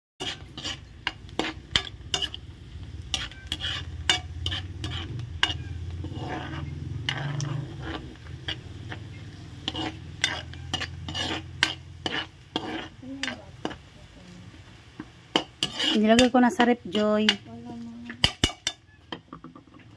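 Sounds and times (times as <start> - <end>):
garlic sizzling in butter: 0.2 - 19.9
metal spatula scraping pan: 0.2 - 19.9.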